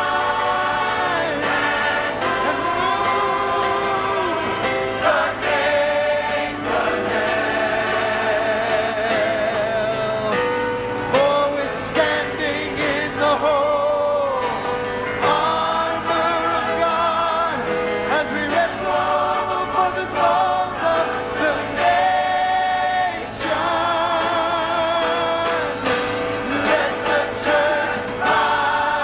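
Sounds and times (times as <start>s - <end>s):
choir singing in harmony: 0.0s - 29.0s.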